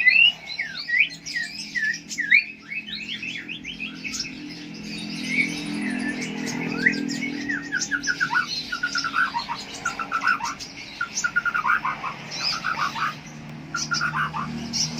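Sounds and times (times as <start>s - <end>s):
other birds chirping: 0.0s - 14.9s
songbird singing rapid notes: 0.0s - 14.9s.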